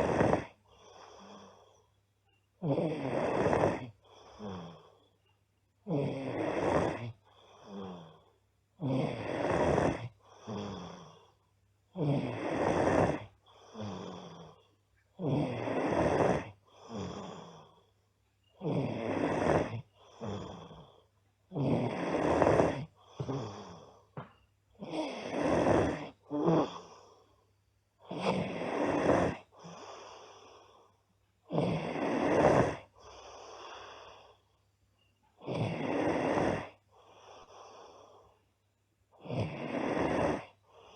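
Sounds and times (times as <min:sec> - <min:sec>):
girl snoring loudly: 0:00.0 - 0:01.8, 0:02.6 - 0:05.1, 0:05.8 - 0:17.9, 0:18.5 - 0:24.2, 0:24.8 - 0:27.4, 0:28.0 - 0:34.5, 0:35.4 - 0:38.3, 0:39.2 - 0:40.8.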